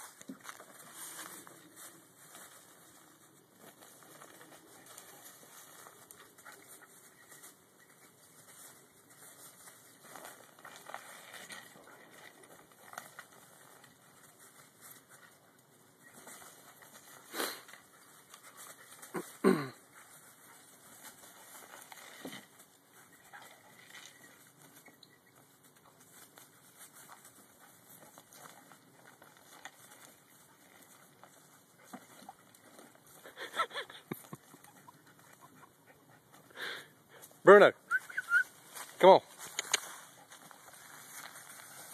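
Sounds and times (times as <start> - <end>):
paws rustling dry leaves: 0.0 - 41.9.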